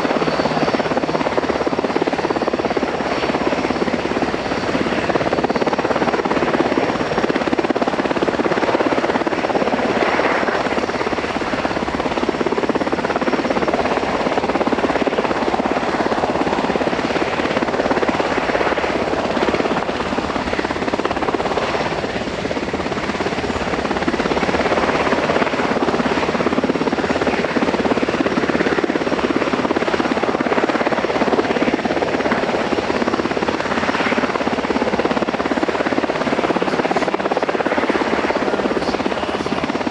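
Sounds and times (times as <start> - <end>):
helicopter rotors and engines: 0.0 - 39.9.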